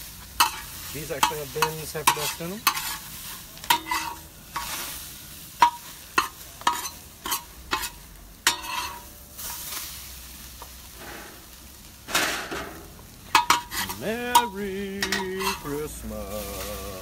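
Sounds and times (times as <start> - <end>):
eggs sizzling in a pan: 0.0 - 17.0
spatula scraping a pan: 0.2 - 9.9, 12.2 - 17.0.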